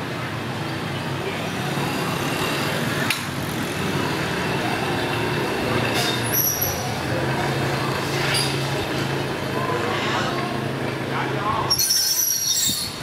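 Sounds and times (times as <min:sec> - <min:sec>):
crowd din outdoors: 0:00.0 - 0:13.0.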